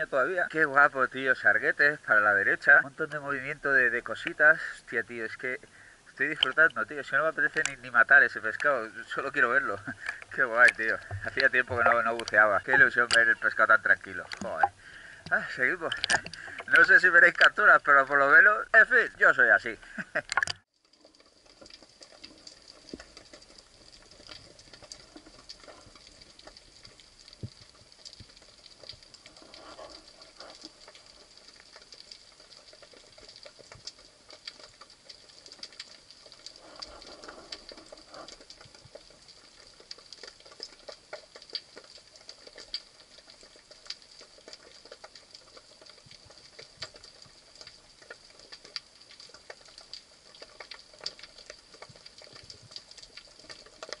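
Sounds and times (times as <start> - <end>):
soft low underwater rush: 0.0 - 54.0
underwater crackle of tiny clicks: 0.0 - 54.0.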